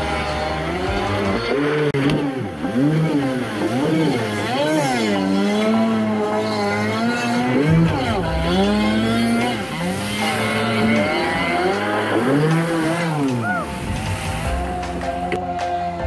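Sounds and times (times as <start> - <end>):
jet ski engine revving: 0.0 - 16.0.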